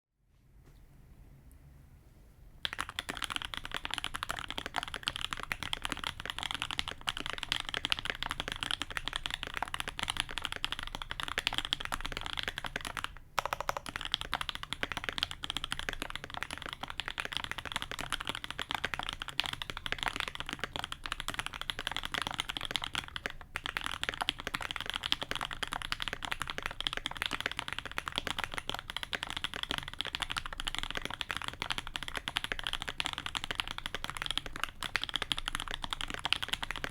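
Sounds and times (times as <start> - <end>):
mechanical keyboard typing: 2.6 - 36.9.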